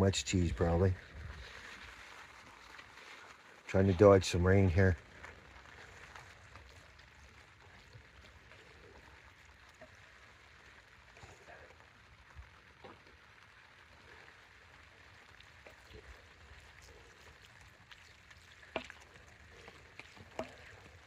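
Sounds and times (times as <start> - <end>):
faint steady rain: 0.0 - 21.0
soft drip ticks: 0.1 - 21.0.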